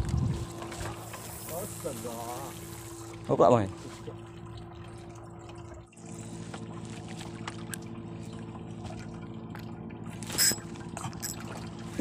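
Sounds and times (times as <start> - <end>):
boat motor running: 0.0 - 12.0
water lapping against hull: 0.0 - 12.0.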